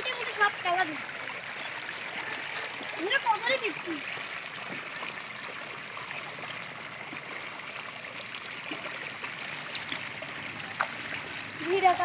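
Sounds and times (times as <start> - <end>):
shallow water flowing: 0.0 - 12.0.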